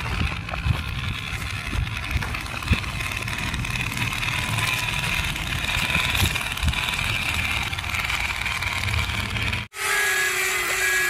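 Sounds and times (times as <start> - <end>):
toy truck electric motor whining: 0.0 - 11.0.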